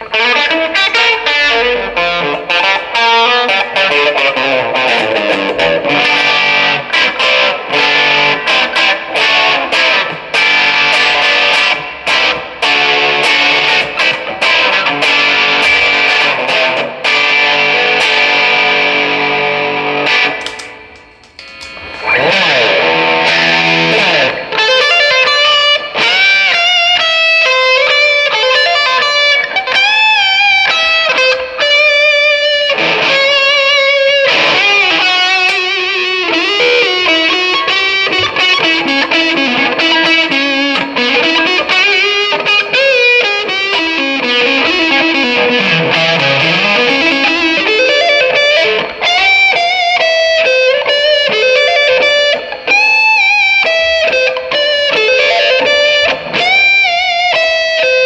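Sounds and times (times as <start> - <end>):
distorted electric guitar lead: 0.0 - 58.0.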